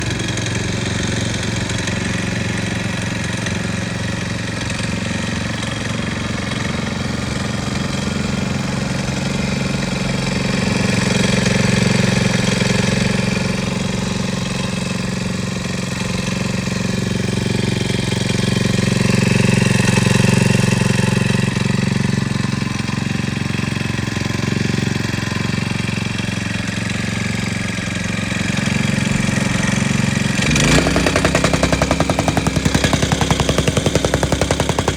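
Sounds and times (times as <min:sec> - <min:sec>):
small petrol engine idling: 0:00.0 - 0:34.9.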